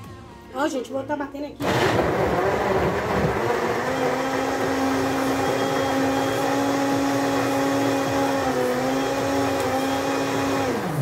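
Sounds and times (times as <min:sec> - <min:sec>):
electric blender running: 0:01.6 - 0:11.0.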